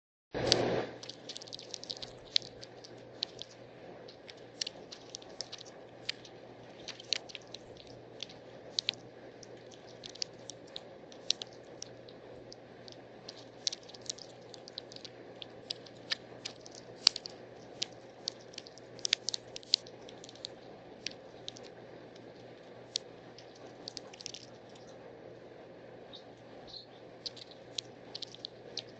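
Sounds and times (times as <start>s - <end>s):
birds pecking and cracking seeds: 0.4s - 25.1s, 26.1s - 28.9s.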